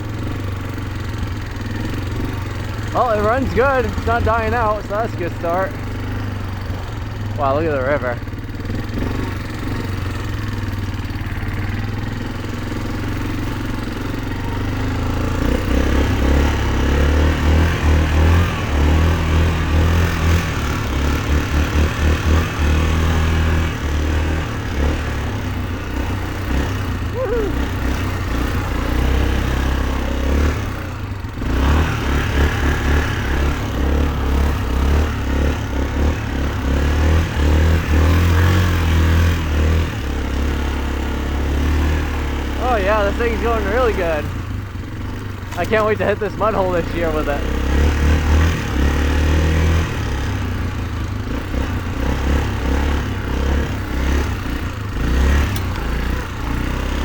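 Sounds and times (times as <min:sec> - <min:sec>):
atv engine rumbling: 0:00.0 - 0:57.0.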